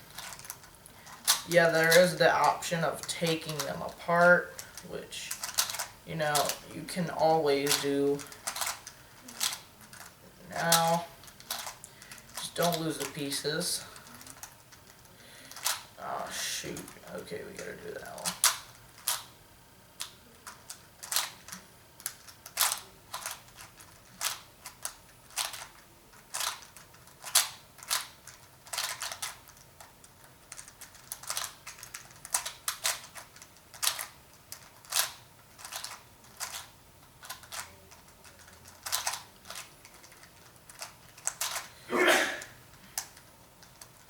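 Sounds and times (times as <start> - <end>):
puzzle cube plastic clicks: 0.1 - 16.0, 16.7 - 19.3, 20.0 - 41.8, 42.7 - 44.0.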